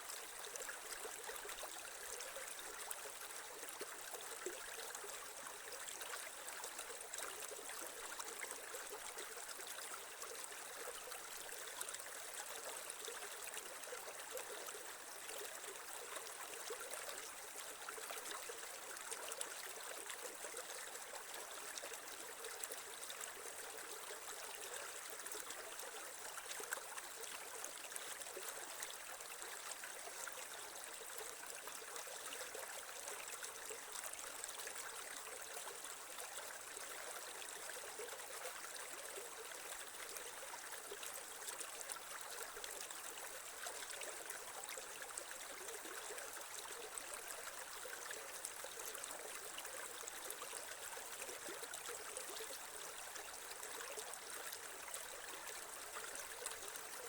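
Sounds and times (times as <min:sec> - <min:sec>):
creek water trickling over stones: 0:00.0 - 0:57.0.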